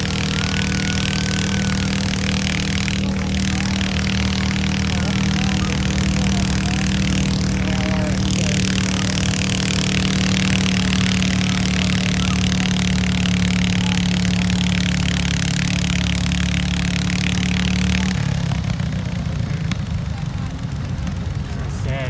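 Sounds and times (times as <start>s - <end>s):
tractor engine running loud: 0.0s - 22.0s.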